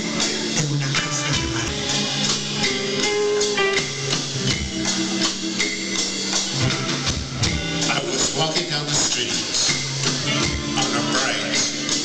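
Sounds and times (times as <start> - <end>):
drum kit: 0.0 - 12.0.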